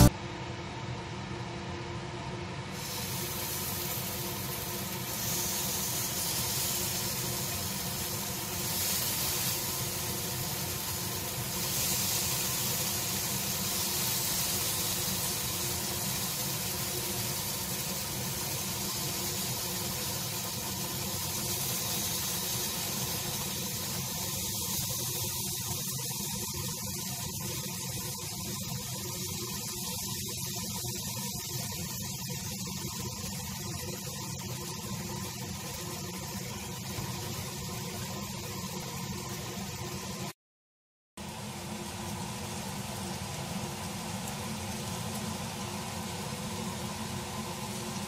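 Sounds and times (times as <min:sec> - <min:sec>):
pork sizzling on grill: 0:02.7 - 0:40.4, 0:41.2 - 0:48.0.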